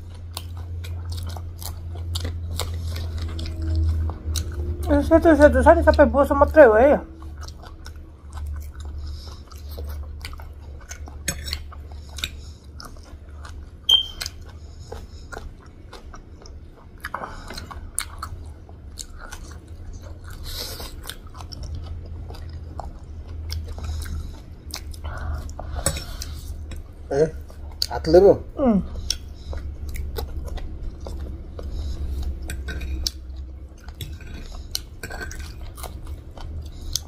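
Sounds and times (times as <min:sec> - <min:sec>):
chewing noodles: 0:00.0 - 0:28.2, 0:28.9 - 0:37.0
steady low hum: 0:00.0 - 0:37.0.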